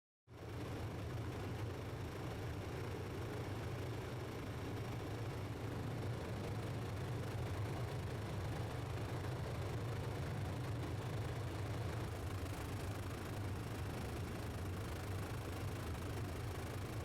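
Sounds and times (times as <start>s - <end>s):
helicopter cabin drone: 0.3s - 17.0s.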